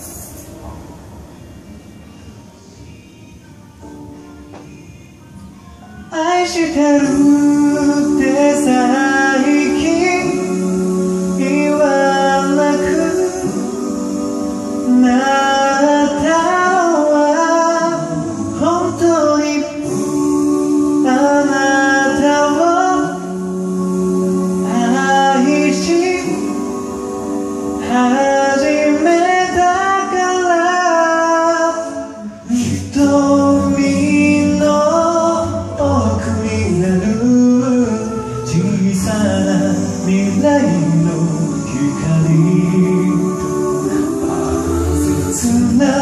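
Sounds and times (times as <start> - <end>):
male a cappella group singing: 6.1 - 46.0.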